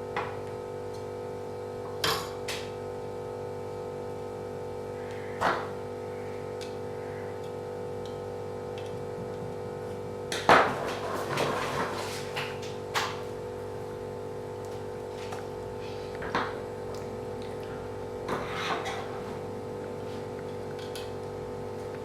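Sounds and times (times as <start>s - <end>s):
droning hum: 0.0s - 22.0s.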